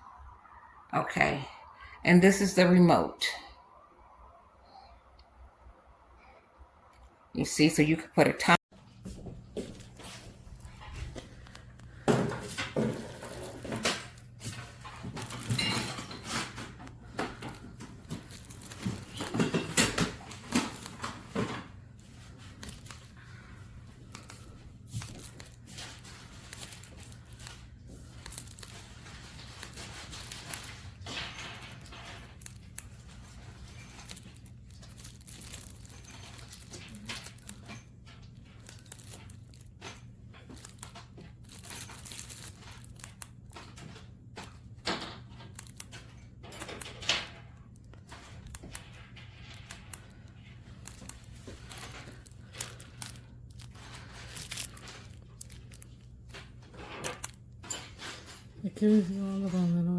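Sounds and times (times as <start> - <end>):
rustling and crinkling handling: 8.7 - 59.9.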